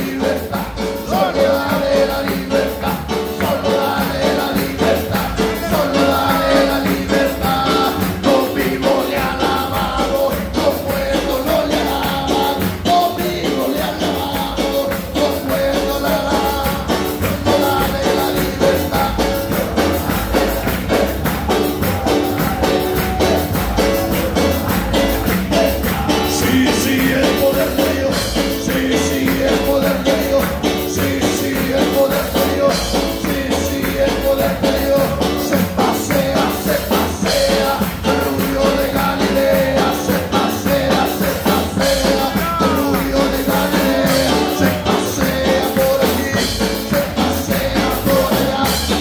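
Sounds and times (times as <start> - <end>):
congregation singing with instruments: 0.0 - 49.0
hands clapping along: 0.0 - 49.0.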